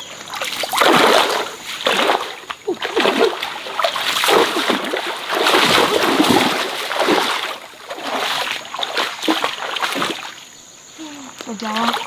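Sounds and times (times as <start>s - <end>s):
water splashing in a stream: 0.0s - 10.5s, 11.5s - 12.0s.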